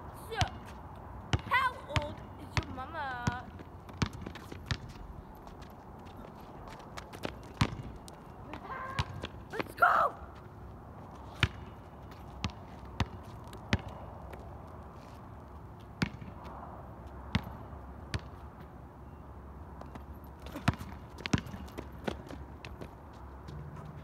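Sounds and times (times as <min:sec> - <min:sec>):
basketball bouncing on asphalt: 0:00.3 - 0:24.0.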